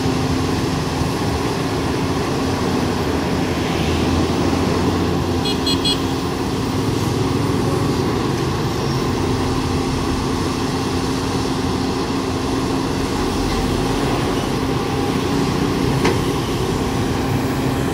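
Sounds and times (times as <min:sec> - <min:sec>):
excavator diesel engine humming: 0:00.0 - 0:17.9.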